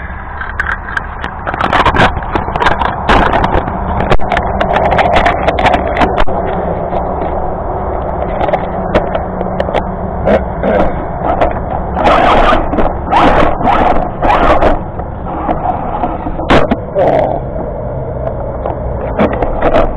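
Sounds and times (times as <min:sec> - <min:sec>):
wheels knocking against stones: 0:00.0 - 0:19.9.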